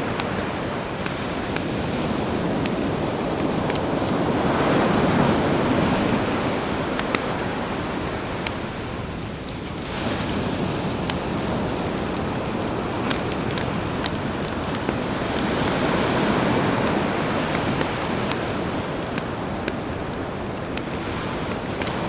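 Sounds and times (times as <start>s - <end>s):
campfire crackling: 0.0s - 22.0s
sea waves washing in: 0.0s - 22.0s.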